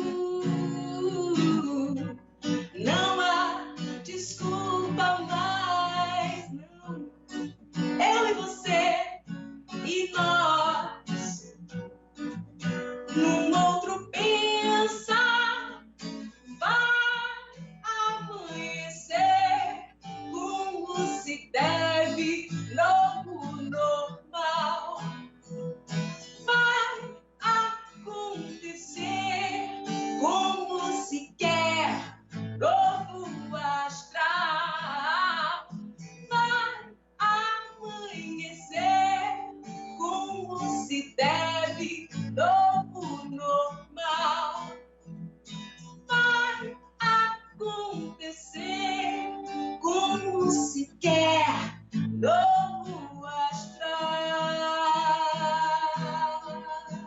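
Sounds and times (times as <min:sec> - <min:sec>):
woman singing: 0:00.0 - 0:11.5, 0:13.1 - 0:15.9, 0:16.5 - 0:25.2, 0:26.2 - 0:44.8, 0:46.1 - 0:57.0
acoustic guitar: 0:00.0 - 0:57.0.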